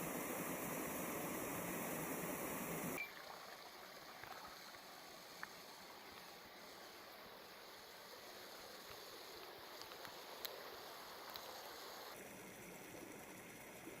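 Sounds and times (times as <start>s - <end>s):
distant rush of water: 0.0s - 12.2s.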